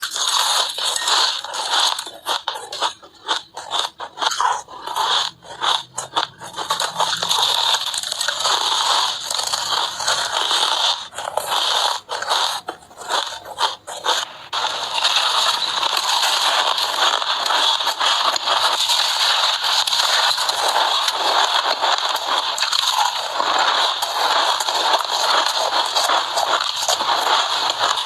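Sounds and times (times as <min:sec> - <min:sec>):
snow being bitten and chewed: 0:00.0 - 0:28.0.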